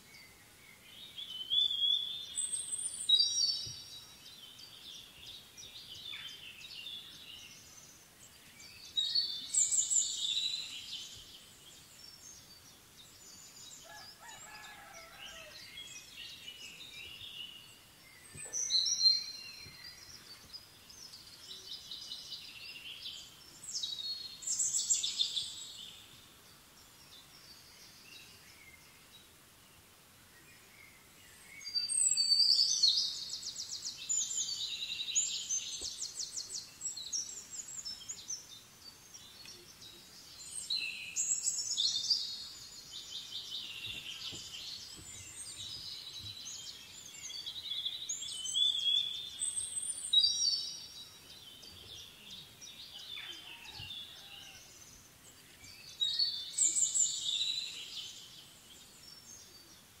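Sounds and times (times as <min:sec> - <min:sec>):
faint outdoor background: 0:00.0 - 1:00.0.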